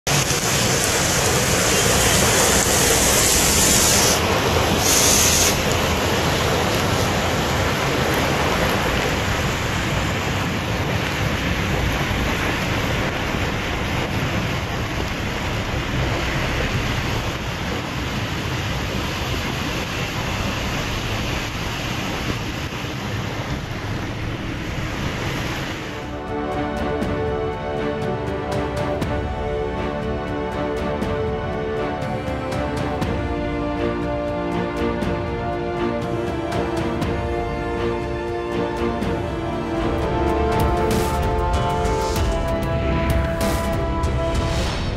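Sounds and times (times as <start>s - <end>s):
heavy rain pouring onto road: 0.0s - 44.9s.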